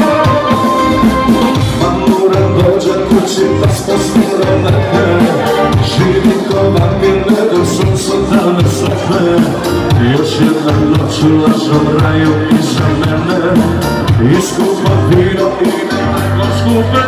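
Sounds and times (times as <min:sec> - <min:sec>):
live band playing pop song: 0:00.0 - 0:17.0
man singing into microphone: 0:00.0 - 0:17.0.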